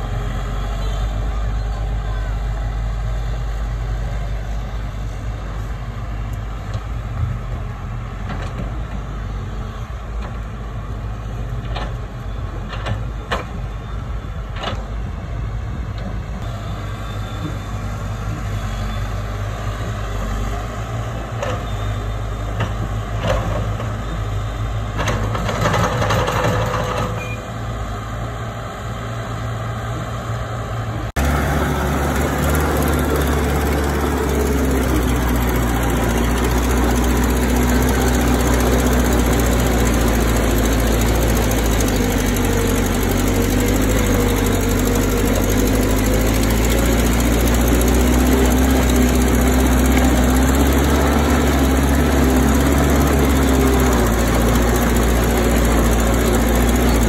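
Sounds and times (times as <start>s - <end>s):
deeper engine sound: 0.0s - 23.3s, 25.4s - 57.0s
diesel machinery running: 0.0s - 57.0s.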